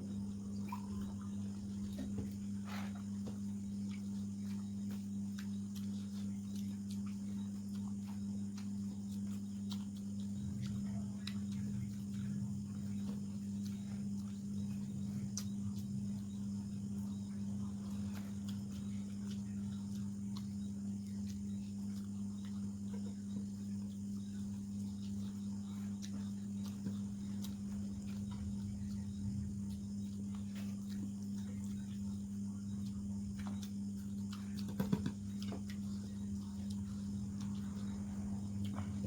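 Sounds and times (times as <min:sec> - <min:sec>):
low electrical hum: 0:00.0 - 0:39.0
person eating with hands: 0:00.0 - 0:39.0.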